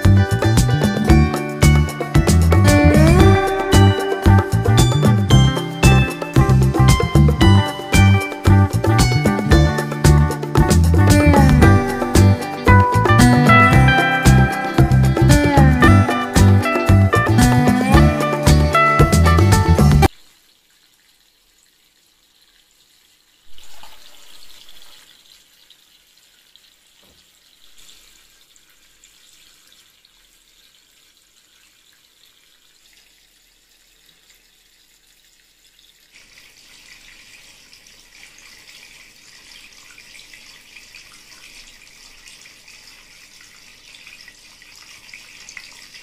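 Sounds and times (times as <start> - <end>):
tabletop fountain trickling: 0.0 - 46.0.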